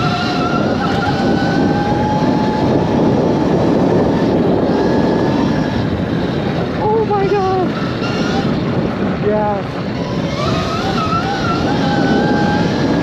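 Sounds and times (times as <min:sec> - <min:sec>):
electric dirt bike motor whine: 0:00.0 - 0:13.0
wind rush on microphone: 0:00.0 - 0:13.0.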